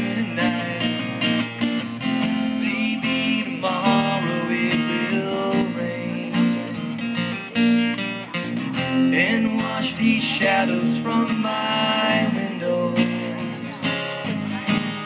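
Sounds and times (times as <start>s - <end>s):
strummed acoustic guitars: 0.0s - 15.0s.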